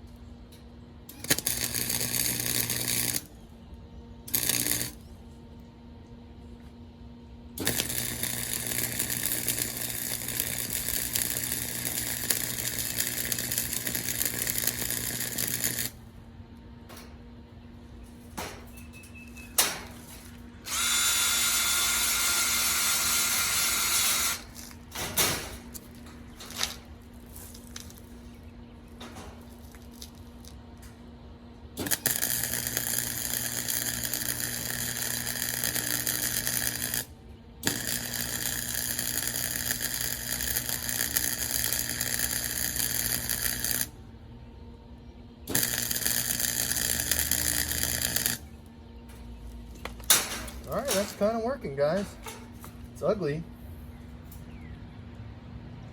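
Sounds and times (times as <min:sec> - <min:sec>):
welder running: 0:00.0 - 0:05.2, 0:07.5 - 0:44.2, 0:45.4 - 0:54.6.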